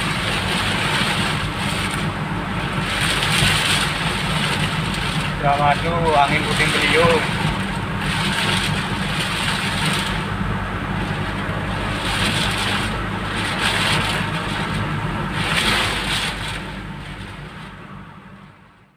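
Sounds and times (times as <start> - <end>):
rushing noise: 0.0 - 18.9
vehicle engine running: 0.0 - 18.9.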